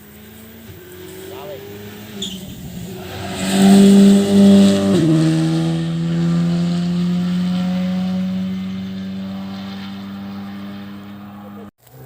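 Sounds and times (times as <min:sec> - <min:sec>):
rally car engine passing: 0:00.0 - 0:11.7.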